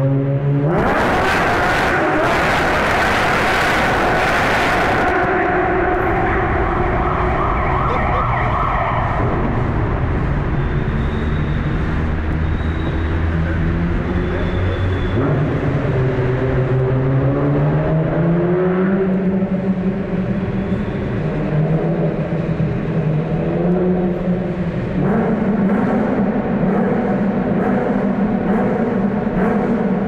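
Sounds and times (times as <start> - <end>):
car engine and exhaust: 0.0 - 30.0.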